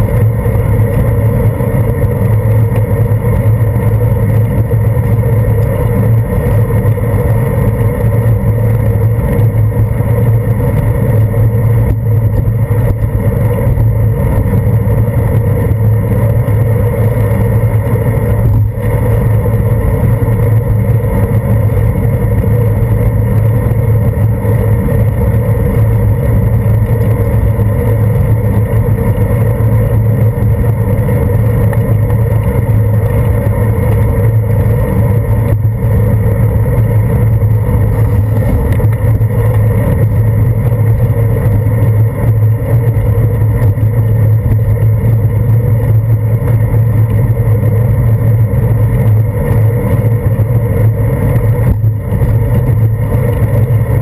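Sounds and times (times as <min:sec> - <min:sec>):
bicycle rumble on wet pavement: 0:00.0 - 0:54.0
wind: 0:00.0 - 0:54.0.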